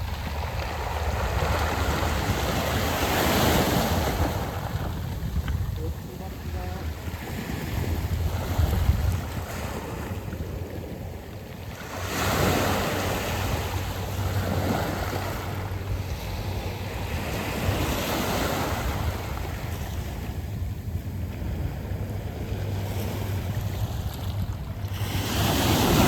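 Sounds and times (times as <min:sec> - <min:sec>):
waves on a pebble beach: 0:00.0 - 0:26.0
wind rumble on microphone: 0:00.0 - 0:26.0.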